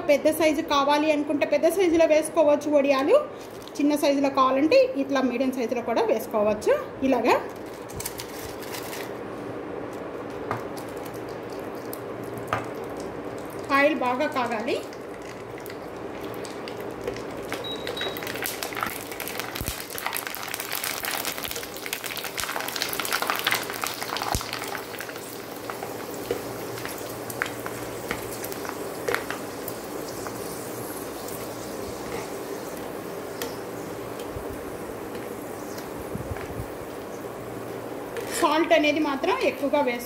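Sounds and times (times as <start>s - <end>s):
papads deep-frying and crackling: 1.8s - 40.0s.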